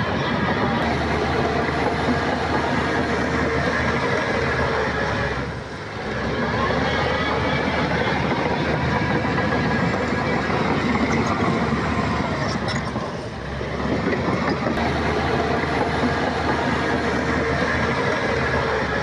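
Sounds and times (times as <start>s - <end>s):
bulldozer diesel engine under load: 0.0s - 19.0s
steel tracks clattering: 0.0s - 19.0s.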